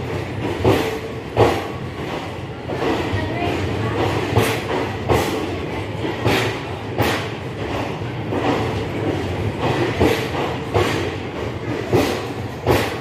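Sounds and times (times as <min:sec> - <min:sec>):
train coaches rumbling past: 0:00.0 - 0:13.0
wheels clacking over rail joints: 0:00.0 - 0:13.0.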